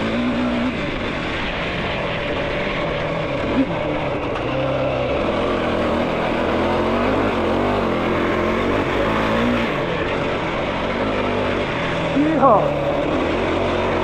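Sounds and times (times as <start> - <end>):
quad engine revving: 0.0 - 14.0.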